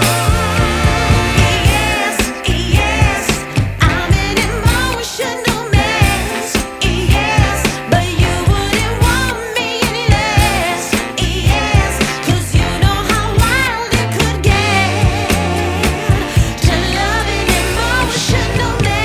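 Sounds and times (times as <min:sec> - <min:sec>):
song with ornamented vocals: 0:00.0 - 0:19.0.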